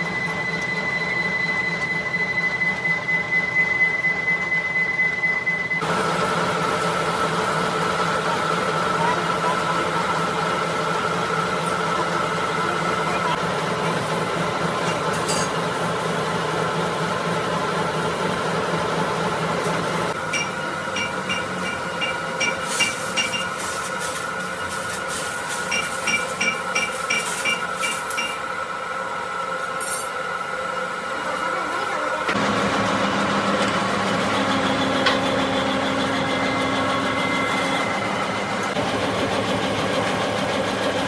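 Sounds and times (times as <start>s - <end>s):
machine tool whining: 0.0s - 41.0s.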